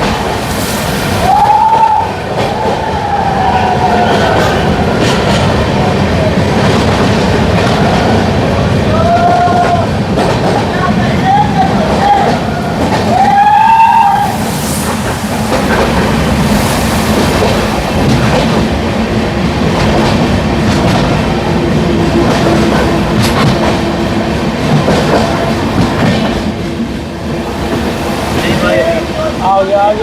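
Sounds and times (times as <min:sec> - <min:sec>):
train wheels clattering on rails: 0:00.0 - 0:30.0.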